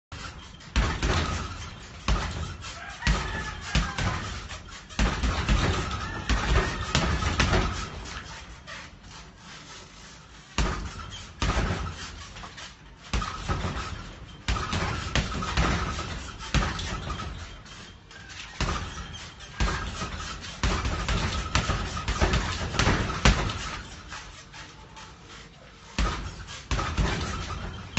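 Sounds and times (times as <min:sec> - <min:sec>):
punches thudding on heavy bag: 0:00.1 - 0:09.8, 0:10.4 - 0:24.7, 0:25.8 - 0:27.9.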